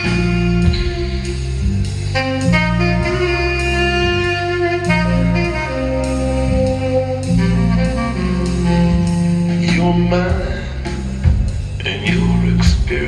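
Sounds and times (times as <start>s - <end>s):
held saxophone notes: 0.0s - 12.6s
low bass line: 0.0s - 13.0s.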